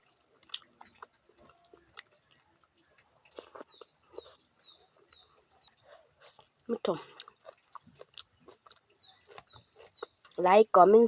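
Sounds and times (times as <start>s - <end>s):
mouth clicks of eating: 0.0s - 10.4s
bird chirping: 0.0s - 11.0s.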